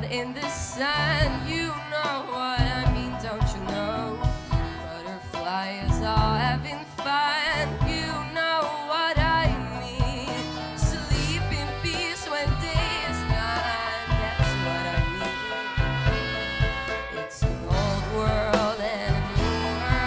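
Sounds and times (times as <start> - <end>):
live band with drums and bass: 0.0 - 20.0
woman singing with vibrato: 0.0 - 20.0.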